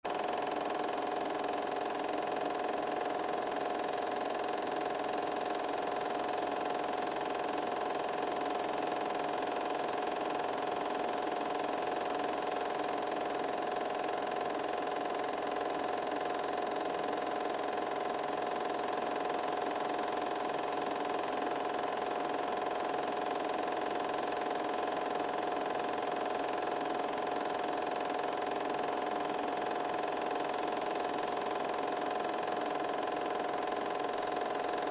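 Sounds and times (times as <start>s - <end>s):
small machine whirring and humming: 0.1s - 34.9s.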